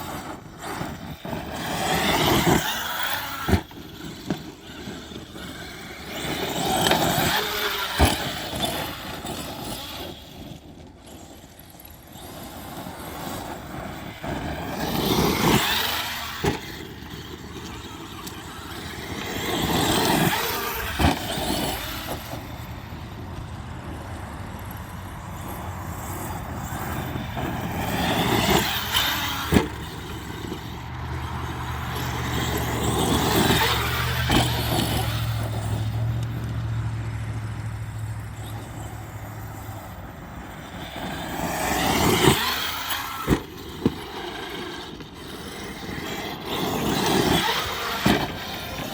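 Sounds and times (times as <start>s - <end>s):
electric motor whining: 0.0s - 48.9s
tyres running over ground: 0.0s - 48.9s.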